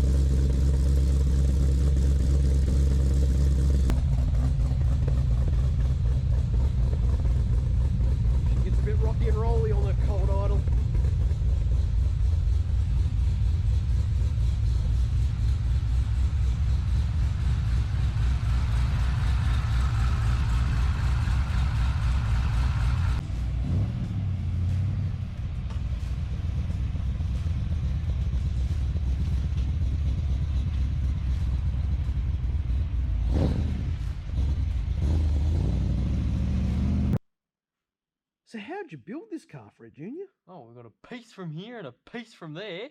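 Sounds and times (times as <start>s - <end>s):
car engine idling rough: 0.0s - 37.2s.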